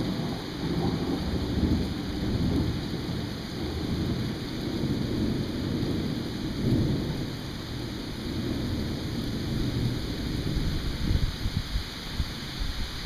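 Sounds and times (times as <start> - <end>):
rolling thunder: 0.0 - 11.6
steady rain falling: 0.0 - 13.0.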